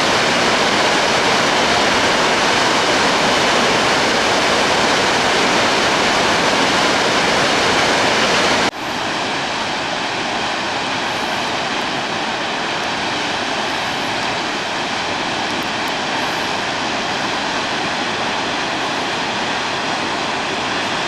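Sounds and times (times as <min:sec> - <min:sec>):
water rushing from dam: 0:00.0 - 0:21.0.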